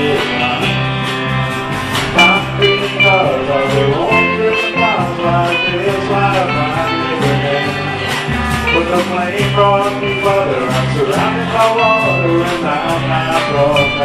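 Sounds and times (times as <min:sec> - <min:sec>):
bass: 0:00.0 - 0:14.0
drum beat: 0:00.0 - 0:14.0
electric guitar: 0:00.0 - 0:14.0.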